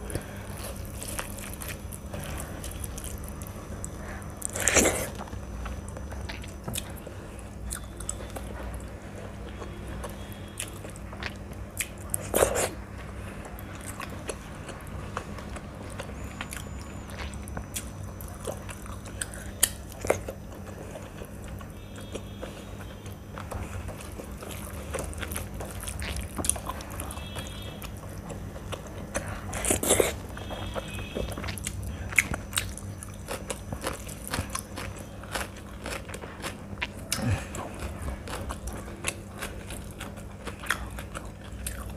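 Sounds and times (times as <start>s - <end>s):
chewing and wet mouth sounds: 0.0s - 41.9s.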